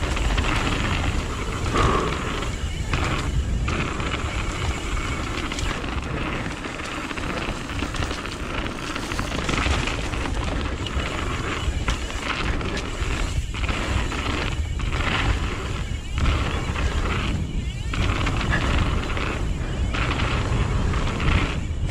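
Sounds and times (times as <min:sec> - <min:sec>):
bike rattling and knocking: 0:00.0 - 0:21.9
tyres rushing on dirt: 0:00.0 - 0:21.9
wind buffeting microphone: 0:00.0 - 0:21.9.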